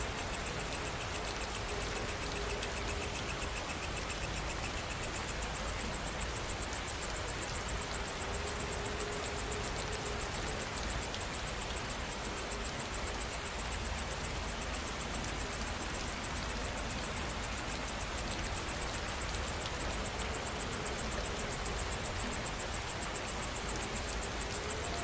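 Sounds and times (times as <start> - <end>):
insect chirring: 0.0 - 25.0
steady rainfall: 0.0 - 25.0.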